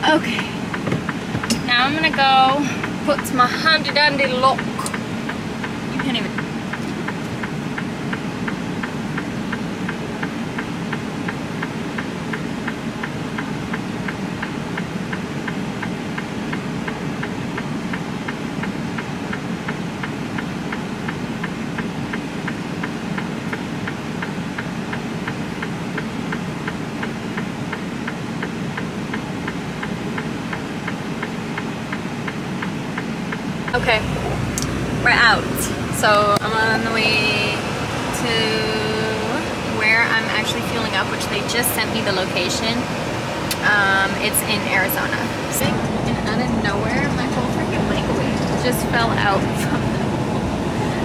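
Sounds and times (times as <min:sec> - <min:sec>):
diesel engine idling: 0:00.0 - 0:51.0
light regular ticking: 0:00.2 - 0:50.5.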